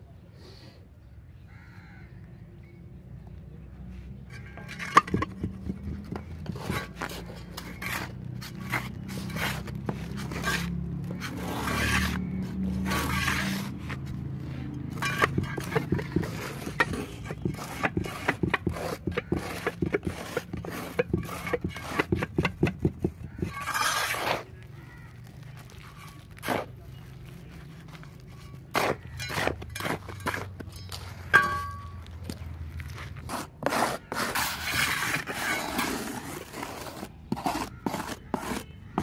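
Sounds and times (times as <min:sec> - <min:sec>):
trowel scraping wet concrete: 0:04.3 - 0:39.0.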